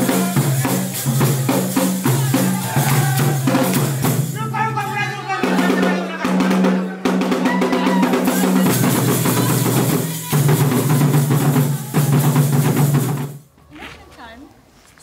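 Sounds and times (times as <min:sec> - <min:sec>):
fast drumbeat: 0:00.0 - 0:13.4.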